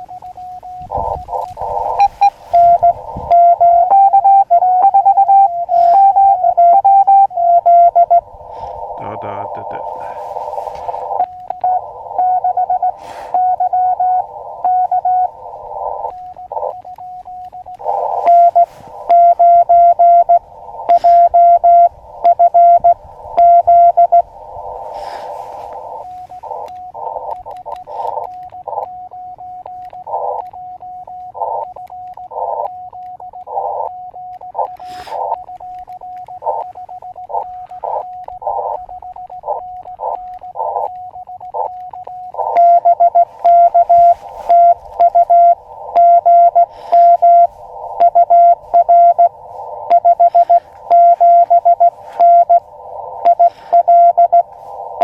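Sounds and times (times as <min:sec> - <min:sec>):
sharp clicks: 0:00.0 - 0:08.9, 0:09.6 - 0:55.0
morse code tones: 0:00.0 - 0:55.0
receiver hiss: 0:00.0 - 0:55.0.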